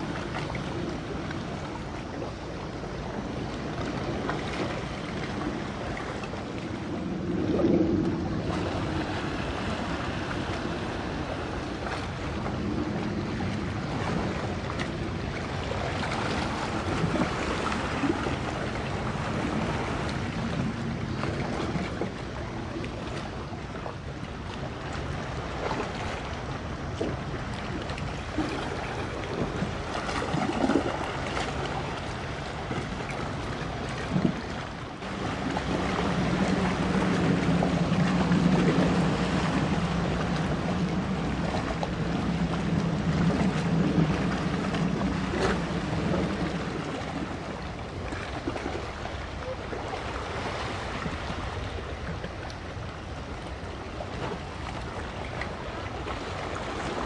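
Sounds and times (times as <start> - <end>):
boat engine drone: 0.0 - 57.0
wind and water rushing: 0.0 - 57.0
wind buffeting microphone: 0.0 - 57.0.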